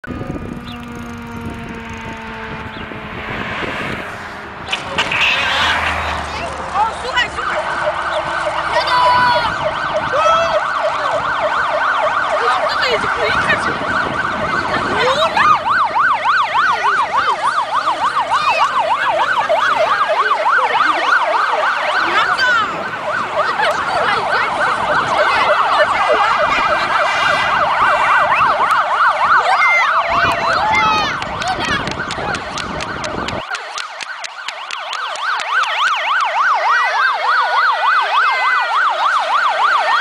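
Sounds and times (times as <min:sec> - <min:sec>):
fire engine siren: 0:00.0 - 0:40.0.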